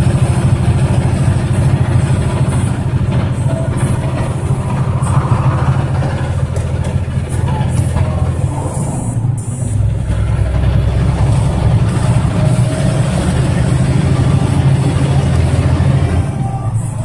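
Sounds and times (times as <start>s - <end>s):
truck diesel engine under load: 0.0s - 17.0s.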